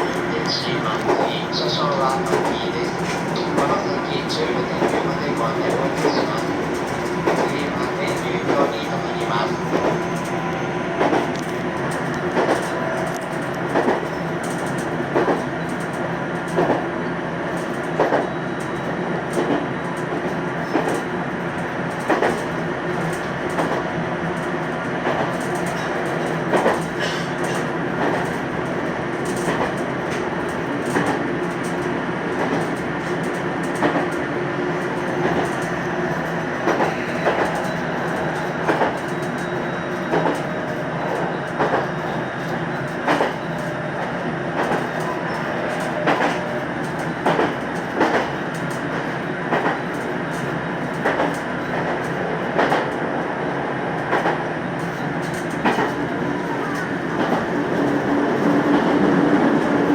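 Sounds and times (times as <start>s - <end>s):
train rumble from wheels and motors: 0.0s - 59.9s.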